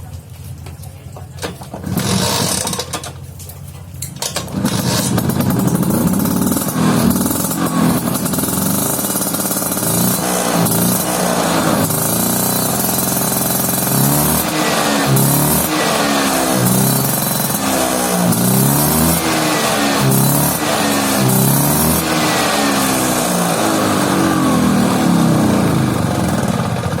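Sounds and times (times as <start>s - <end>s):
two-stroke scooter engine revving: 1.4s - 3.2s, 4.1s - 27.0s.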